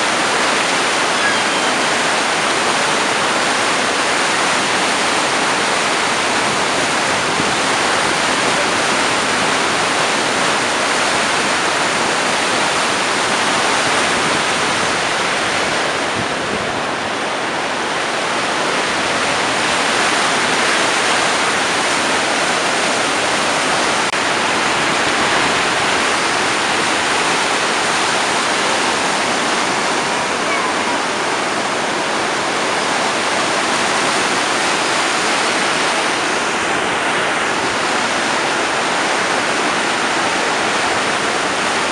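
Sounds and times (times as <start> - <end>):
white-water rapids rushing: 0.0 - 41.9.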